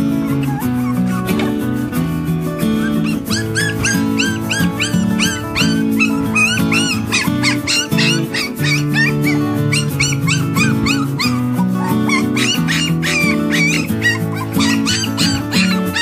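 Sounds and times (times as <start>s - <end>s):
background music with held notes: 0.0s - 16.0s
puppies yelping and whimpering: 0.0s - 16.0s.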